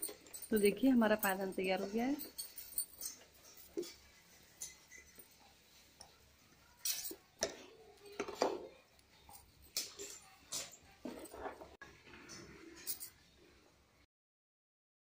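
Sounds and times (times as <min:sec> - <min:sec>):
glass bangles clinking: 0:00.0 - 0:11.8, 0:12.8 - 0:13.2.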